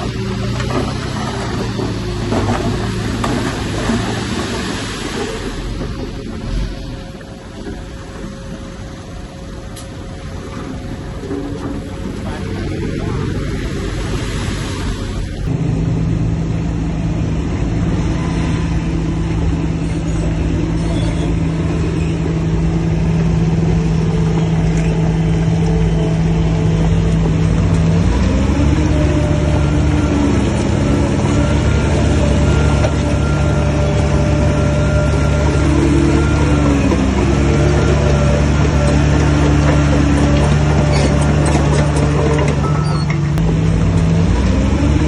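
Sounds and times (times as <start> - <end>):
heavy diesel engine under load: 0.0 - 45.0
higher engine tone: 0.0 - 45.0.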